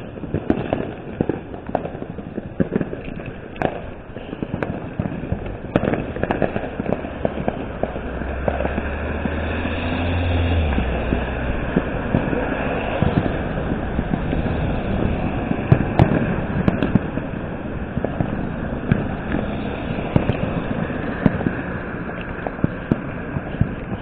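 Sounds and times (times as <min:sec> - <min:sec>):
fireworks popping and banging: 0:00.0 - 0:24.0
low rumble: 0:02.5 - 0:24.0.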